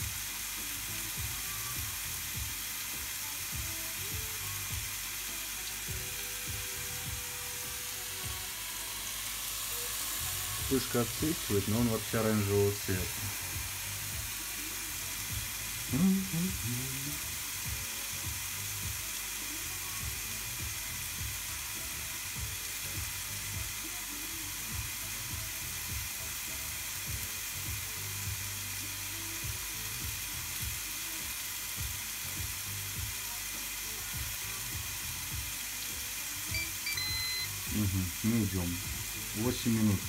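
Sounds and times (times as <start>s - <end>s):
steak sizzling on grill: 0.0s - 40.0s.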